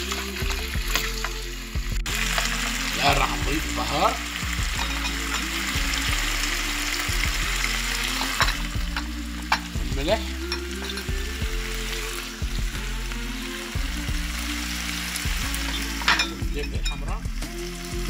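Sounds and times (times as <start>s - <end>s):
chicken sizzling in frying pan: 0.0s - 18.0s.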